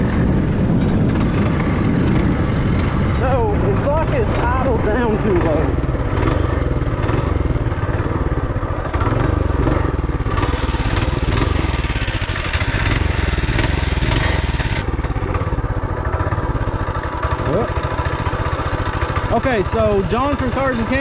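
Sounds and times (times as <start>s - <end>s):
mini bike engine running: 0.0s - 21.0s.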